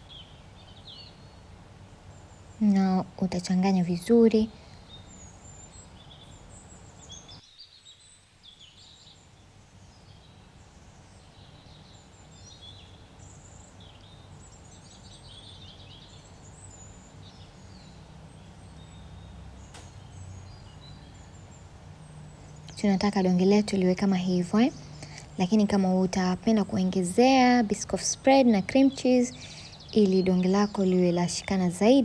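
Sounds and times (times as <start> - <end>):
birds chirping: 0.0 - 32.0
low steady background noise: 0.0 - 32.0.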